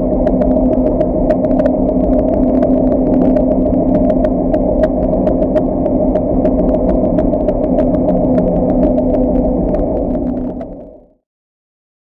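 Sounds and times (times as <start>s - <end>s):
small ticks: 0.0s - 11.1s.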